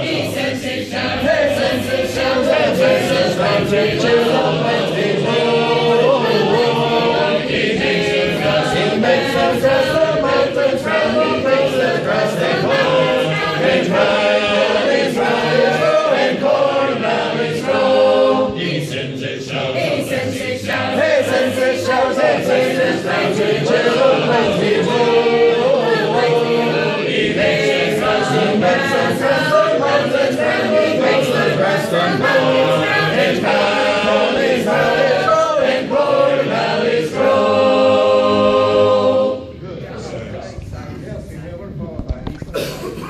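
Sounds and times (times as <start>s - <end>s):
choir singing a hymn a cappella: 0.0s - 40.9s.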